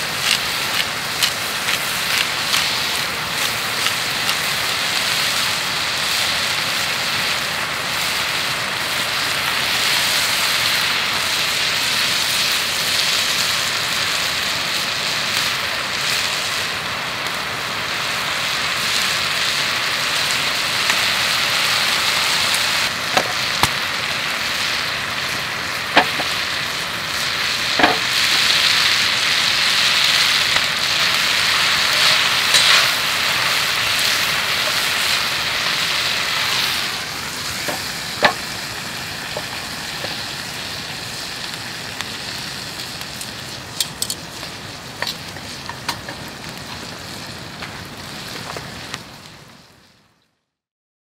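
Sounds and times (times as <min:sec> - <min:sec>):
food sizzling in a frying pan: 0:00.0 - 0:50.1.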